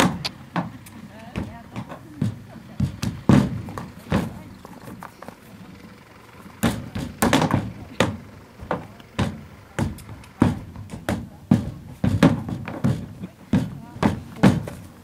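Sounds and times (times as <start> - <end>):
horse hooves on trailer ramp: 0.0 - 15.0.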